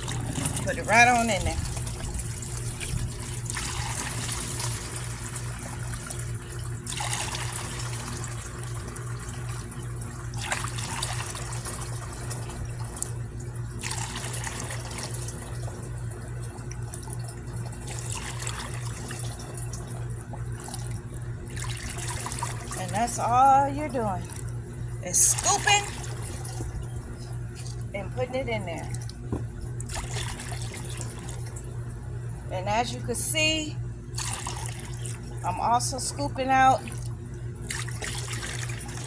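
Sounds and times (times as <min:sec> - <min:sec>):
water pouring into a bucket: 0:00.0 - 0:28.2, 0:28.8 - 0:31.8, 0:34.1 - 0:35.5, 0:36.2 - 0:39.0
low hum: 0:00.0 - 0:39.0.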